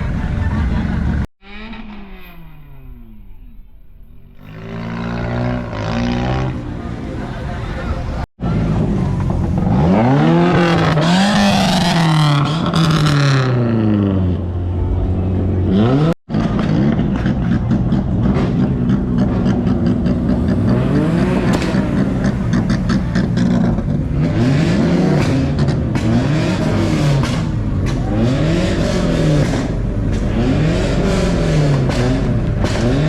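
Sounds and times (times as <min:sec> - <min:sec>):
sports car engines revving: 0:00.0 - 0:33.0.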